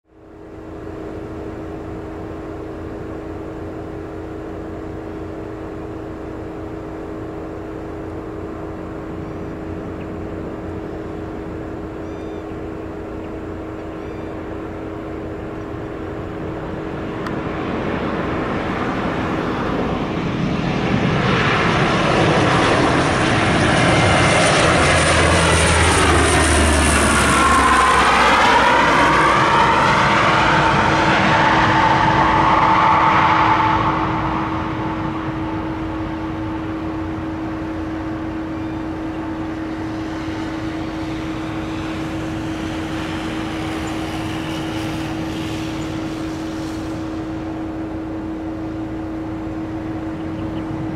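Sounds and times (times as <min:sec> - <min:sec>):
turboprop aircraft propeller drone: 0:00.0 - 0:50.9.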